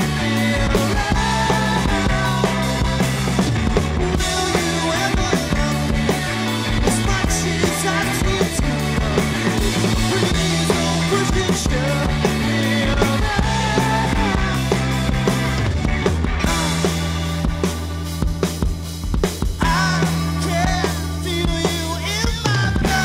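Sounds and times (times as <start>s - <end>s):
drums steady beat: 0.0s - 23.0s
rock band playing live: 0.0s - 23.0s
sustained bass notes: 0.0s - 23.0s.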